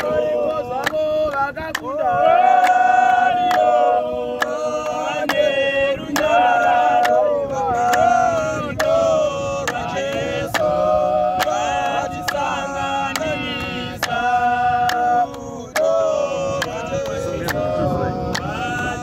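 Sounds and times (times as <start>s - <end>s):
hand claps: 0.0s - 0.2s, 0.8s - 19.0s
men singing a cappella: 0.0s - 19.0s.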